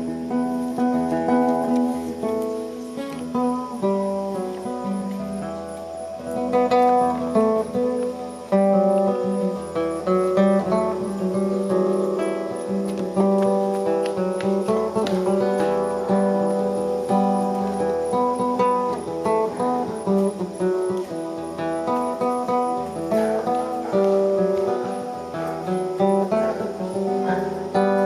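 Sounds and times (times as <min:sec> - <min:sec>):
plucked string instrument: 0:00.0 - 0:28.0.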